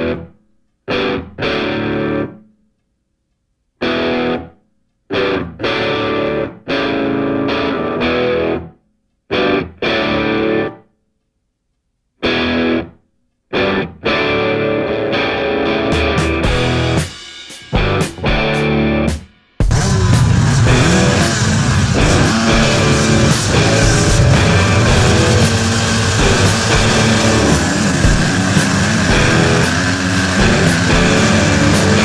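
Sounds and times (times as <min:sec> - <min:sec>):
distorted electric guitar riffs: 0:00.0 - 0:02.5, 0:03.8 - 0:10.8, 0:12.2 - 0:32.0.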